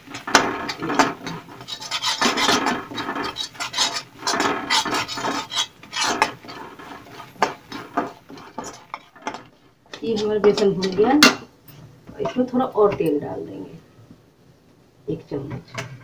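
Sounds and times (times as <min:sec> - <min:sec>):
metal spatula scraping pan: 0:00.0 - 0:13.1, 0:15.6 - 0:16.0.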